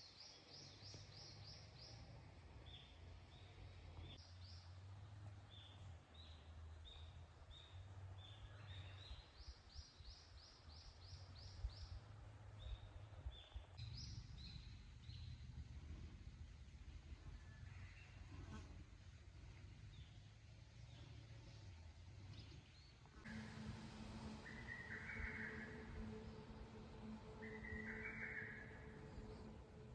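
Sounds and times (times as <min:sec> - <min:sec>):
wild birds chirping: 0:00.0 - 0:29.9
low steady hum: 0:00.1 - 0:29.9.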